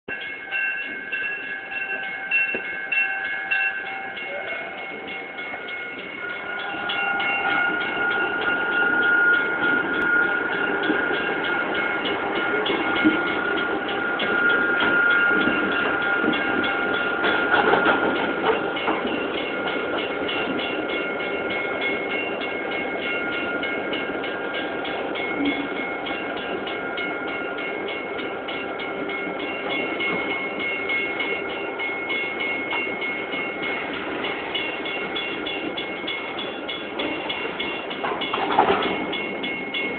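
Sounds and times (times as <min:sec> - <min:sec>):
steady high-pitched tones: 0:00.1 - 0:39.9
train wheels clattering: 0:00.1 - 0:39.9.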